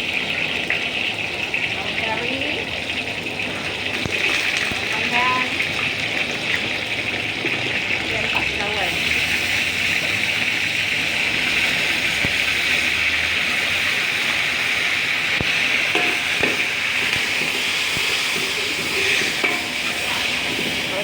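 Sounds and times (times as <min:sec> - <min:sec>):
hot oil sizzling in a pan: 0:00.0 - 0:21.0.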